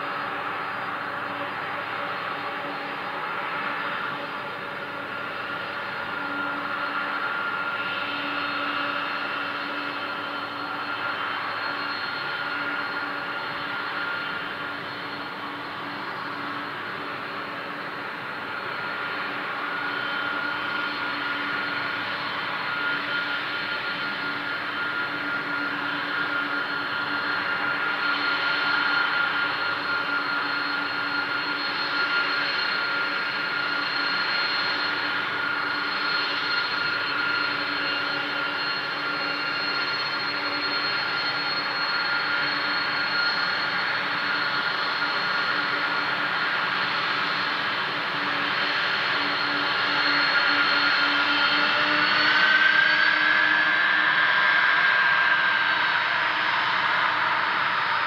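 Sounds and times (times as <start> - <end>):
jet engines whining at taxi power: 0.0 - 58.0.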